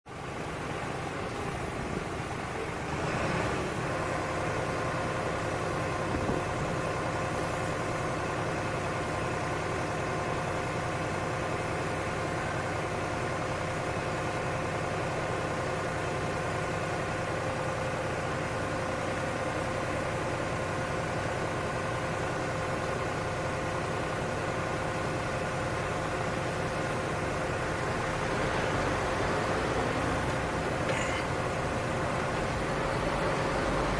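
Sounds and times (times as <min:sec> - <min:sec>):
farm machine engine running: 0:00.1 - 0:33.9.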